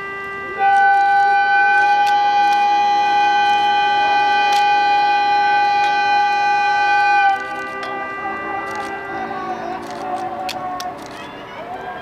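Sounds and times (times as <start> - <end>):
train air horn blast: 0.0 - 11.2.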